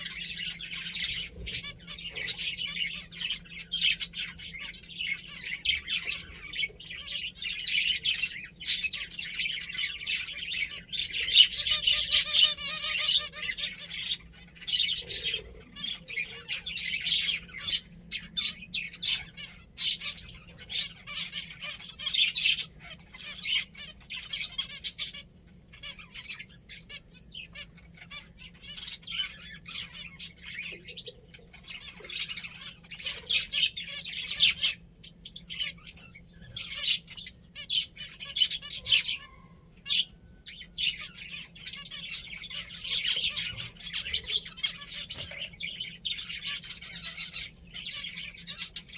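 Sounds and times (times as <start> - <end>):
finches chirping: 0.0 - 48.9.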